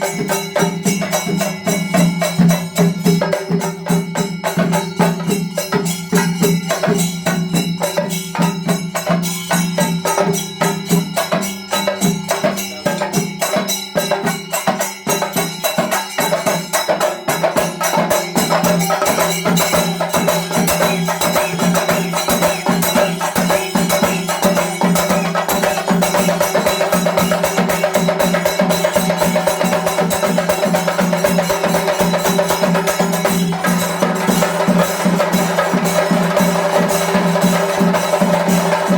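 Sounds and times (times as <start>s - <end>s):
drums beaten with sticks: 0.0s - 38.9s
ringing hand cymbals: 0.0s - 38.9s.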